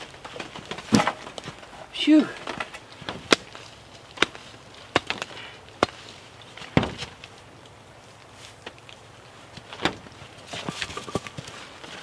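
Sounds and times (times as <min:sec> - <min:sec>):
dry sticks cracking: 0:00.0 - 0:12.0.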